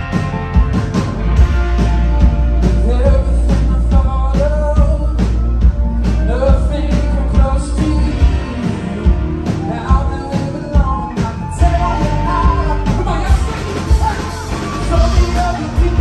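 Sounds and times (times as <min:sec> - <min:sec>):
drum kit: 0:00.0 - 0:16.0
electric guitars: 0:00.0 - 0:16.0
man singing: 0:02.6 - 0:16.0.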